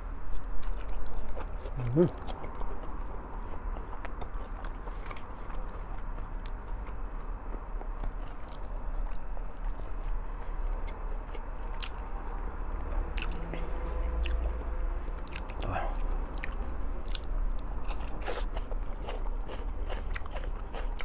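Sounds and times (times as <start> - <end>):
steady low hum: 0.0 - 21.0
person chewing food: 0.3 - 21.0.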